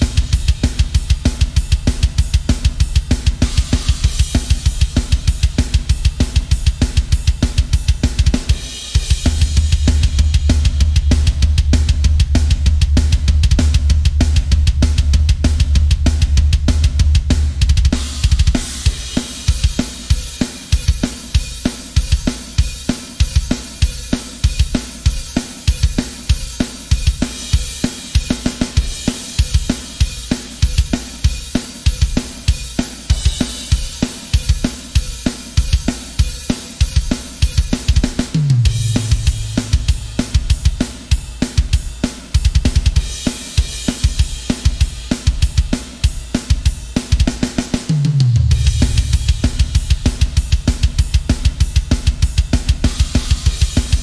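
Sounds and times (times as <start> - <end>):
cymbals: 0.0 - 12.6, 16.2 - 54.0
heavy metal drumming: 0.0 - 54.0
rapid bass drum run: 0.0 - 54.0.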